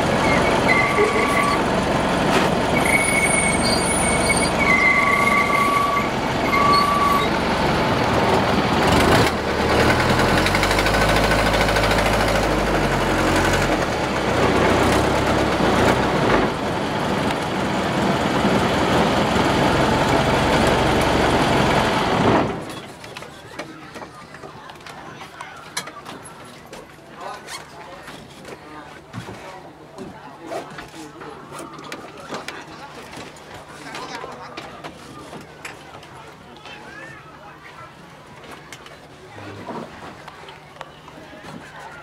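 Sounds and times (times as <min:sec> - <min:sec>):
wind: 0:00.0 - 0:42.0.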